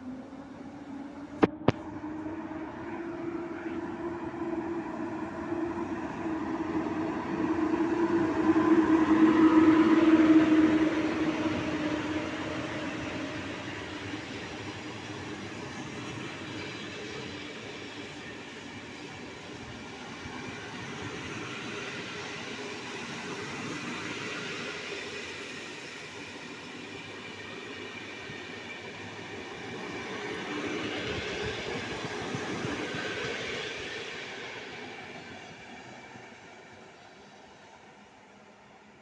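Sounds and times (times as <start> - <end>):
train wheels on track: 1.2 - 39.0.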